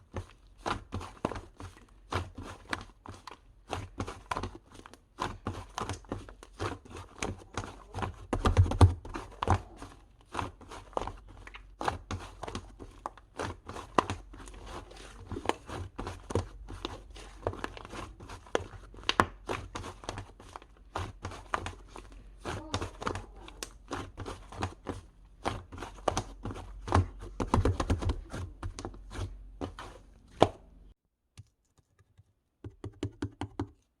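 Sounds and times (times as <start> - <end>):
crinkly object crackling: 0.0 - 30.7.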